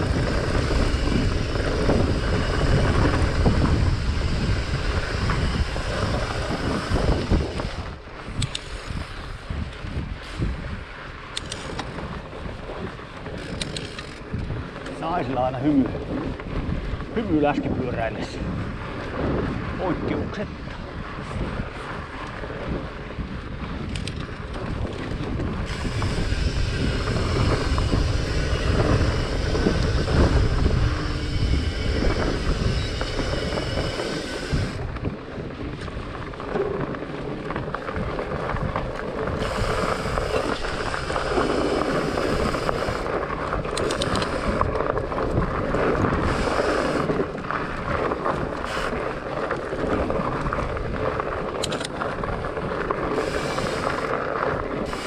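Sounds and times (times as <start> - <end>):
bike clicks and knocks: 0.0 - 17.2, 20.6 - 55.0
bike tyres rolling rumble: 0.0 - 55.0
wind on microphone: 0.0 - 55.0.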